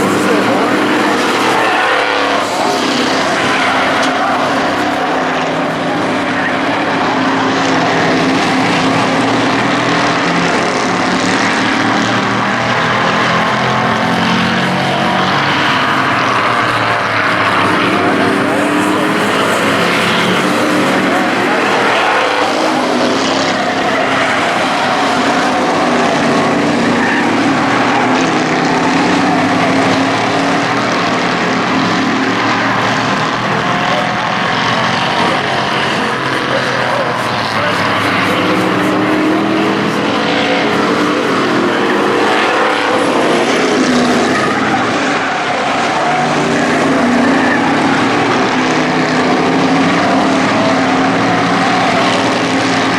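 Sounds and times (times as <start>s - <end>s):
race truck engines running hard: 0.0s - 52.9s.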